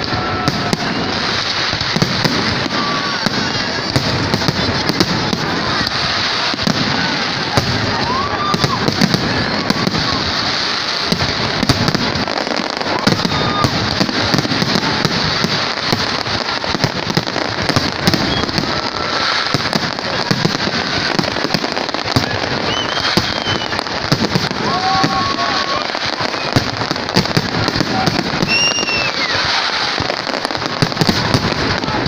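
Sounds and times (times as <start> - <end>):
crackling hiss of fireworks: 0.0 - 32.0.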